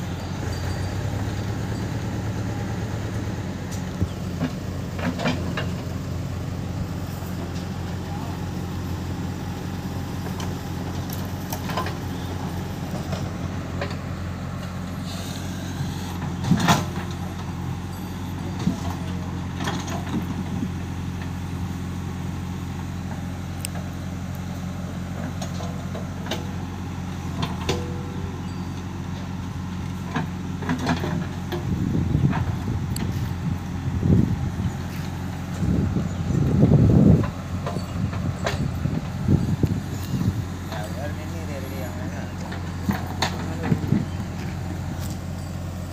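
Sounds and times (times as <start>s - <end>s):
diesel engines running: 0.0s - 45.9s.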